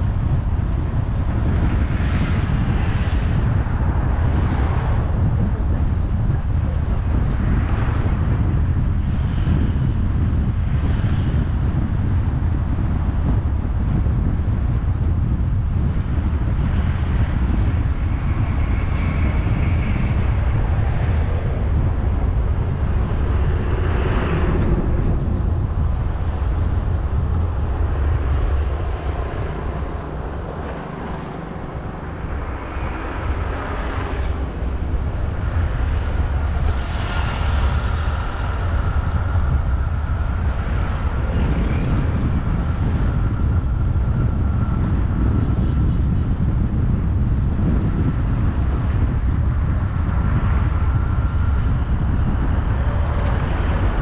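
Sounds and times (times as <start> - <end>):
vehicles passing: 0.0 - 45.0, 47.7 - 54.0
road and wind rumble: 0.0 - 54.0.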